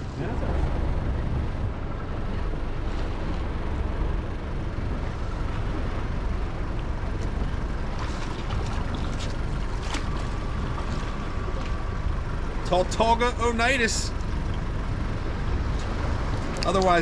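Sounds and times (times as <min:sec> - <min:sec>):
water lapping around boat: 0:00.0 - 0:17.0.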